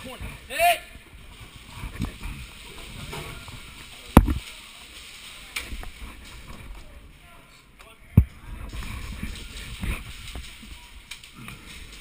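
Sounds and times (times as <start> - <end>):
low rustle of movement: 0.0 - 12.0.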